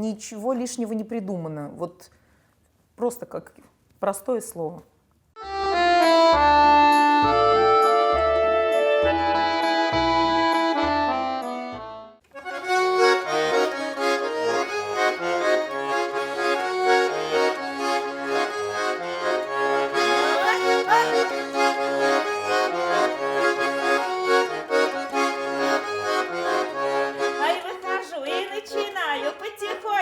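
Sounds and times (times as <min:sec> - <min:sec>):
accordion playing folk dance tune: 0:05.4 - 0:30.0.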